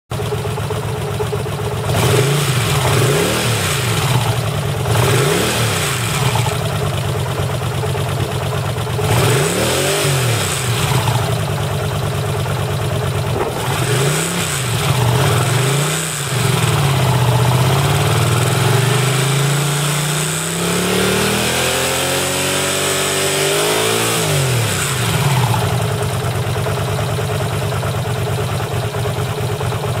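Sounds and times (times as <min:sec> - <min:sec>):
engine idling and revving: 0:00.1 - 0:30.0.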